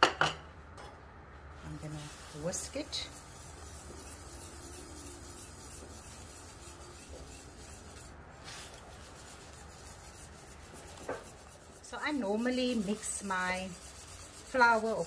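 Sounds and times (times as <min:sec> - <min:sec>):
whisk scraping a pot: 0:01.6 - 0:15.0.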